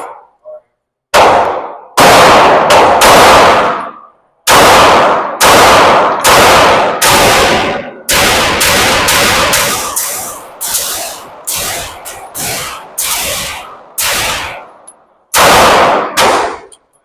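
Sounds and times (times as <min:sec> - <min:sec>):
pistol shots echoing indoors: 0:01.1 - 0:16.8.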